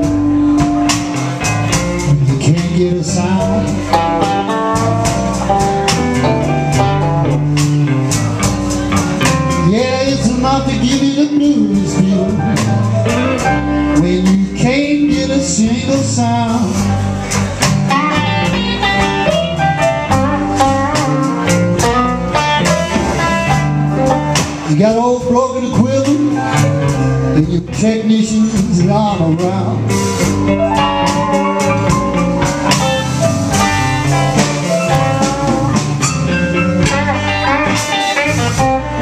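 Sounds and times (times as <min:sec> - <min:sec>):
electric guitar bending notes: 0:00.0 - 0:39.0
live blues band playing: 0:00.0 - 0:39.0.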